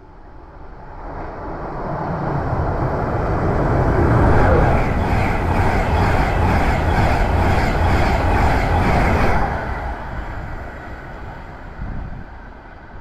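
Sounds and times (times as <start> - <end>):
train passing with wheel clatter: 0.0 - 13.0.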